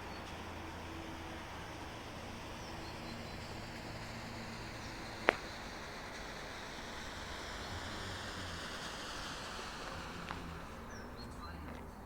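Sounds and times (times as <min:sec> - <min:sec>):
smoke grenade hissing: 0:00.0 - 0:11.7.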